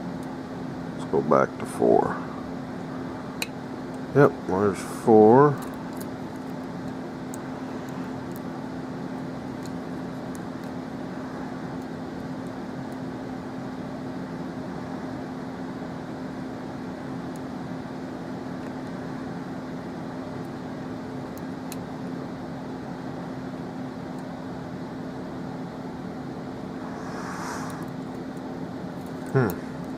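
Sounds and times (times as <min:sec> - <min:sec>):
steady background hum: 0:00.0 - 0:29.9.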